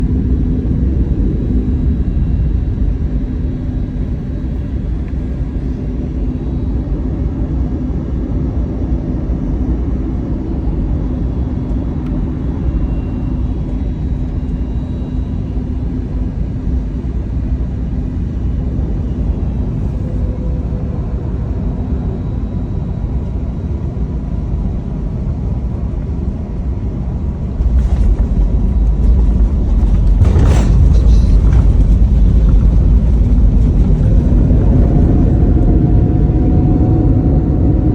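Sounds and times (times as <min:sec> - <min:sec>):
jet airliner engines rumbling: 0:00.0 - 0:37.9.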